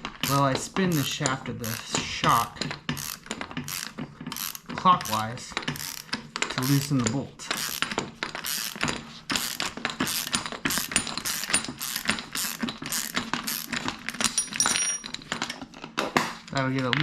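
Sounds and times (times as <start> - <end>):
hand ratchet clicking: 0.0 - 15.1.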